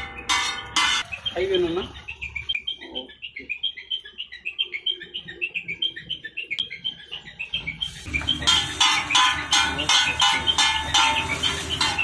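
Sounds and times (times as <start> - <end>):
small birds chirping rapidly: 0.0 - 12.0.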